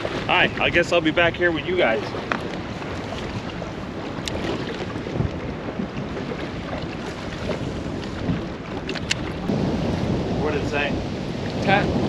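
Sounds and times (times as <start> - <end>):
water lapping around boat: 0.0 - 12.0
wind noise on microphone: 0.0 - 12.0.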